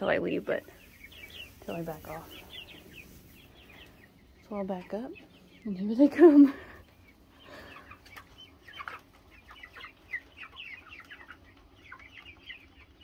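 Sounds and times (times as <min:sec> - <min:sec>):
chickens peeping and clucking: 0:00.0 - 0:13.0.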